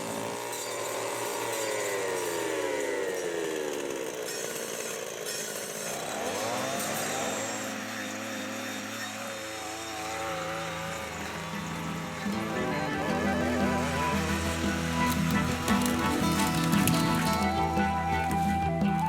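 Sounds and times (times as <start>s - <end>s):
chainsaw cutting: 0.0s - 19.0s.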